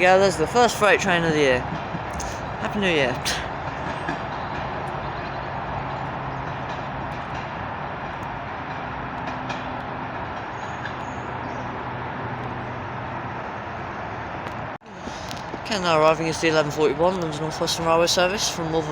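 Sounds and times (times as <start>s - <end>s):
train wheel and rail noise: 0.0s - 18.9s.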